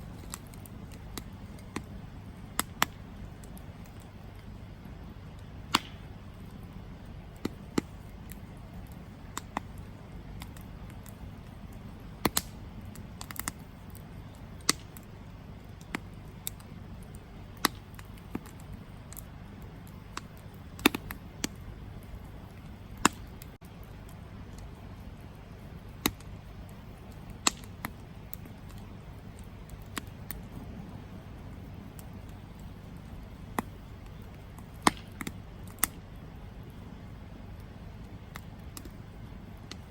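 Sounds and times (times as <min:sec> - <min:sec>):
campfire crackling and popping: 0:00.0 - 0:39.9
low steady background noise: 0:00.0 - 0:39.9.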